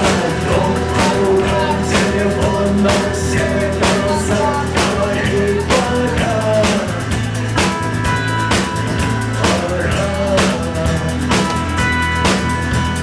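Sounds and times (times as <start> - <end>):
instrumental rock band playing: 0.0 - 13.0.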